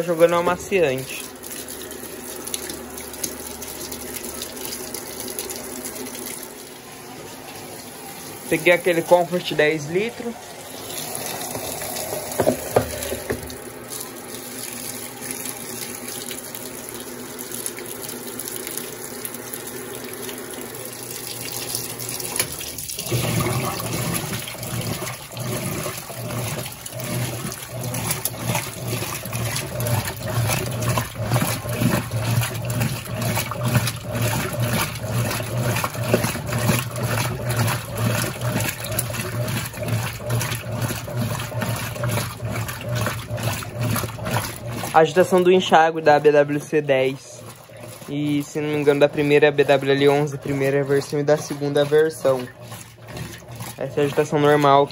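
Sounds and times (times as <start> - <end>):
agitator motor humming: 0.0 - 54.9
washing machine filling with water: 0.0 - 54.9
water sloshing: 0.0 - 54.9.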